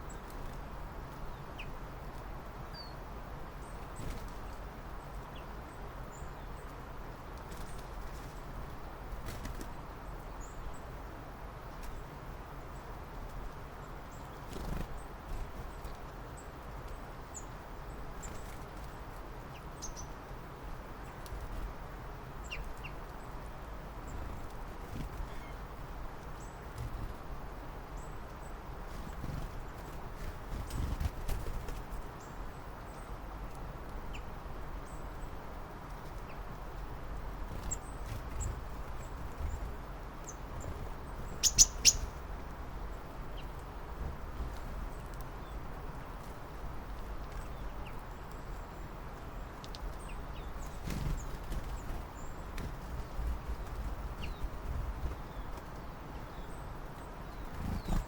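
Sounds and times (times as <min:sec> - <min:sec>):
background hiss: 0:00.0 - 0:58.0
small birds chirping: 0:00.0 - 0:58.0.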